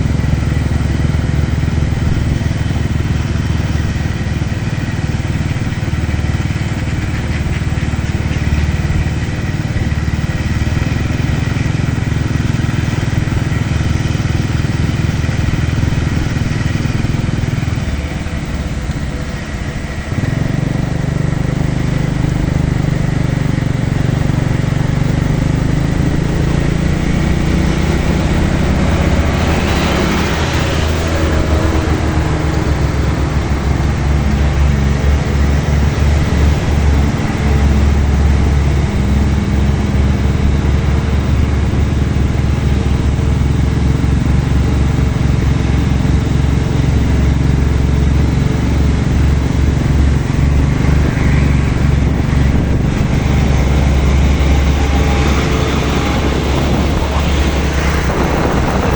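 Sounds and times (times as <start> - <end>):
road noise: 0.0 - 58.9
truck engine droning: 0.0 - 58.9.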